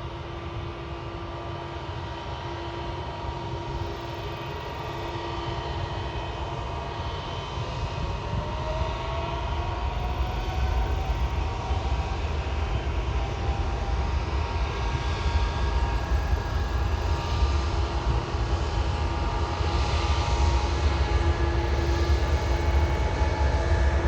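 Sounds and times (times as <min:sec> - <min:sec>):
jet airliner engines running: 0:00.0 - 0:24.0.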